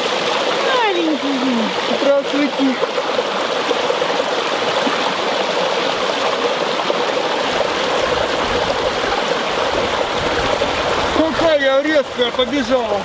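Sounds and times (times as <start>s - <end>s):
brook running over rocks: 0.0s - 13.0s.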